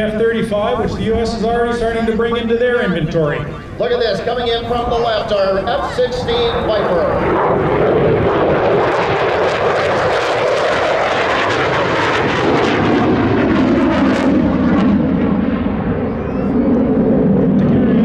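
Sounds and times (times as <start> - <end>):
fighter jet afterburner roar: 0.0 - 18.0.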